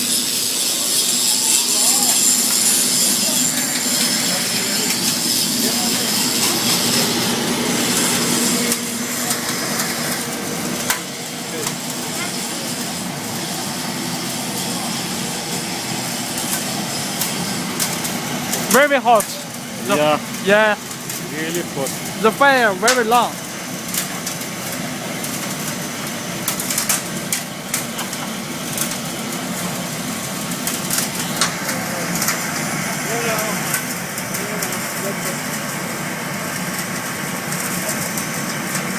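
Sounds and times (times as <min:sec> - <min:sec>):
burner fan and flame rushing: 0:00.0 - 0:38.9
fire crackling and popping: 0:00.3 - 0:38.9.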